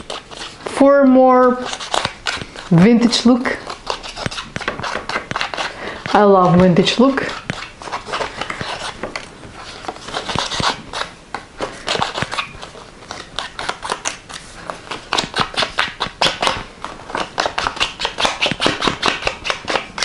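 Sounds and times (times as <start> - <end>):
paper scratching on ink pad: 1.6 - 11.1, 11.7 - 20.0.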